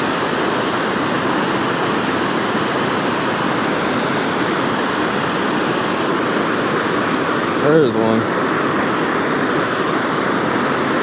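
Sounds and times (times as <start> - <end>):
water roaring through spillway: 0.0 - 11.0.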